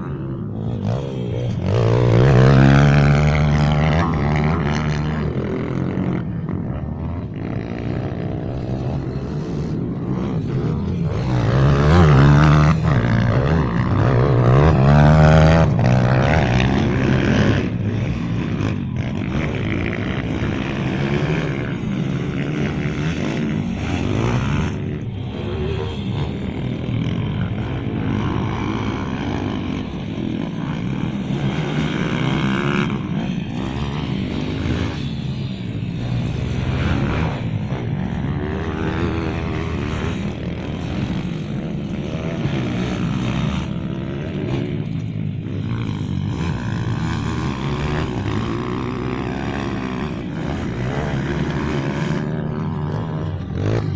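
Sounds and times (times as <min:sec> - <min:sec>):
pit bike engines revving: 0:00.0 - 0:53.9.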